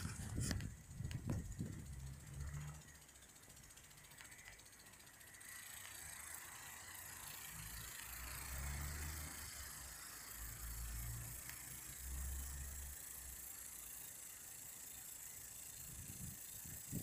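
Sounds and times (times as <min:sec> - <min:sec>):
sprinkler ratchet ticking: 0:00.0 - 0:17.0.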